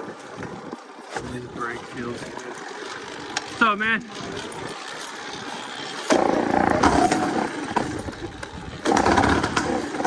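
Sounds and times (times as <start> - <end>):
two-stroke engine revving: 1.2 - 10.0.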